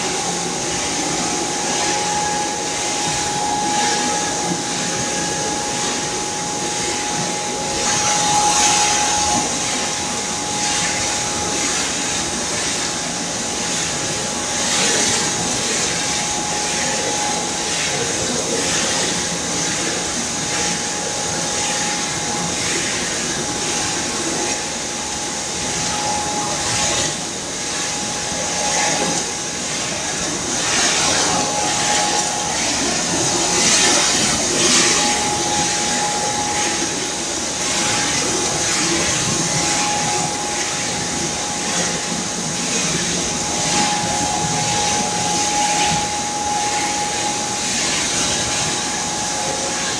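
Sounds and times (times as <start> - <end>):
constant machine whine: 0.0 - 49.9.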